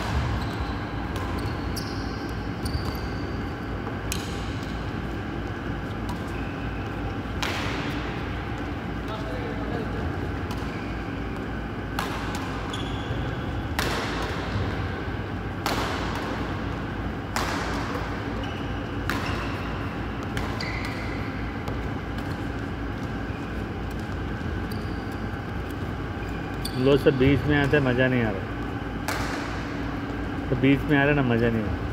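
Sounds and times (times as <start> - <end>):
racket hitting shuttlecock: 0.0 - 9.0, 10.4 - 25.8, 28.5 - 30.3
steady low hum: 0.0 - 31.9.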